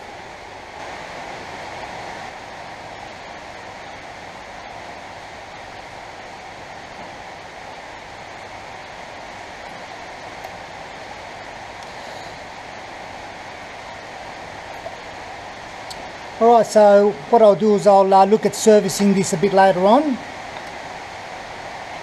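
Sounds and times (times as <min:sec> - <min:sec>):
heavy rain on a roof: 0:00.0 - 0:22.0.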